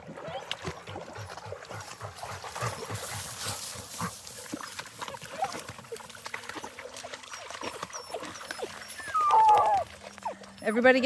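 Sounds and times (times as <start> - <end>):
dogs splashing in water: 0.0 - 11.0.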